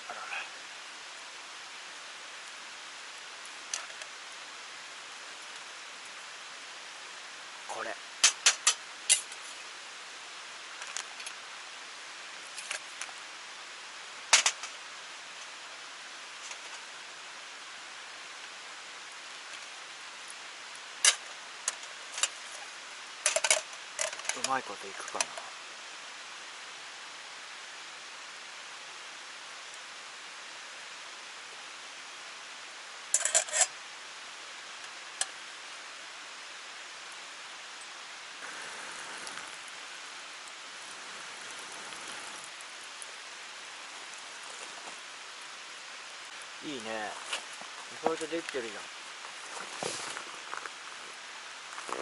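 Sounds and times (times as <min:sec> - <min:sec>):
stream and waterfall rushing: 0:00.0 - 0:52.0.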